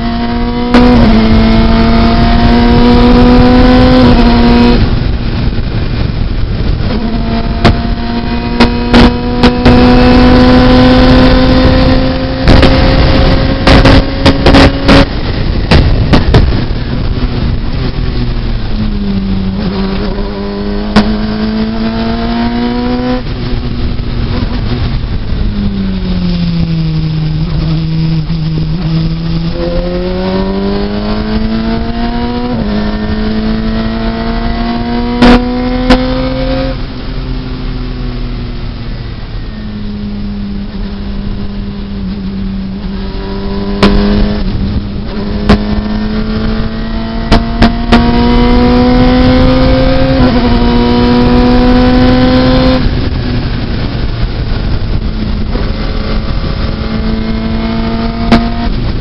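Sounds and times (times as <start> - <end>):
race car engine revving: 0.0 - 25.5, 26.1 - 37.6, 40.6 - 59.0.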